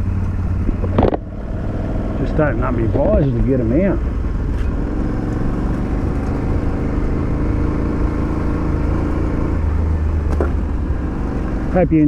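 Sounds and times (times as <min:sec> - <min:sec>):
deeper engine rumble: 0:00.0 - 0:12.0
motorcycle engine running: 0:00.0 - 0:12.0.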